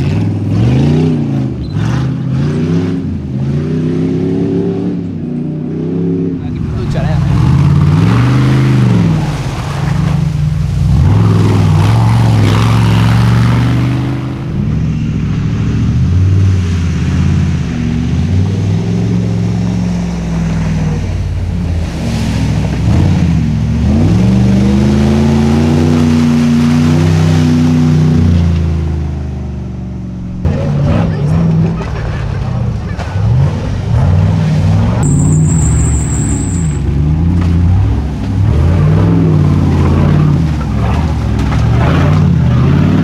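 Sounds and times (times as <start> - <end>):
off-road buggy engines revving: 0.0 - 43.0.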